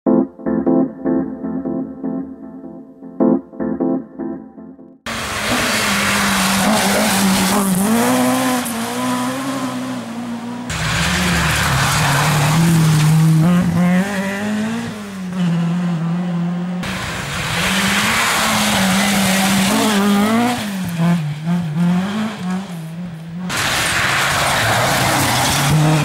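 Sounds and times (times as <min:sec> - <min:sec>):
rally car engines revving: 0:05.1 - 0:26.0
tyre and road noise: 0:05.1 - 0:26.0.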